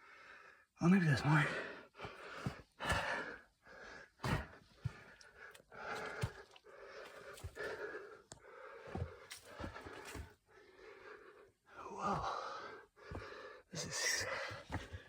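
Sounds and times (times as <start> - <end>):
person breathing heavily: 1.6 - 15.0.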